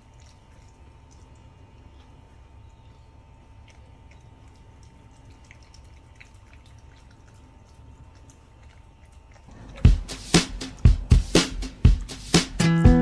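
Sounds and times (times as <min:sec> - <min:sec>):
dog lapping and chewing: 0:00.0 - 0:12.1
low steady hum: 0:00.0 - 0:13.0.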